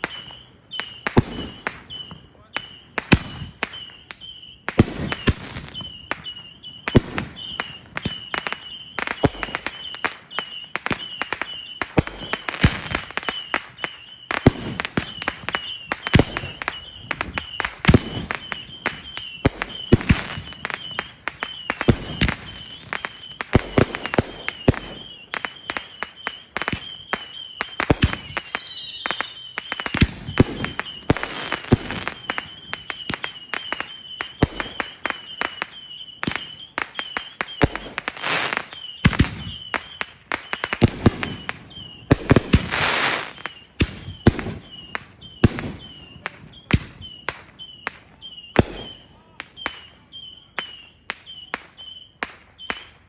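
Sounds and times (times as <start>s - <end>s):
falling firework whistle: 0.0s - 53.0s
fireworks banging and popping: 0.0s - 53.0s.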